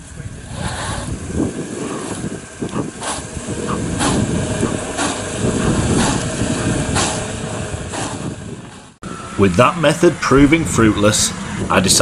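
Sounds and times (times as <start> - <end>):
car engine under load: 0.0 - 12.0
wheels spinning in mud: 0.0 - 12.0.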